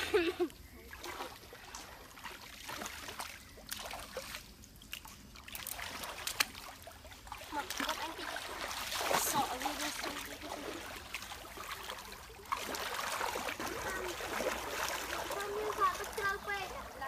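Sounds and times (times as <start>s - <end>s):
stream water sloshing around feet: 0.1s - 17.0s.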